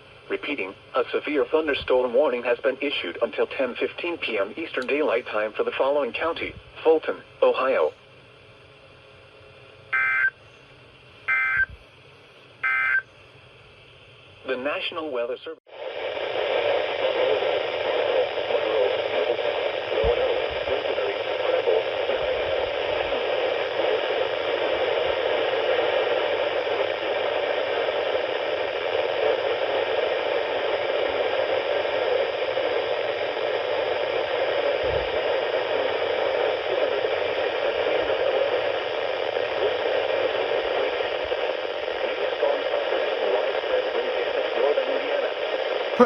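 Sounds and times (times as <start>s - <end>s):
radio static hiss: 0.0s - 46.0s.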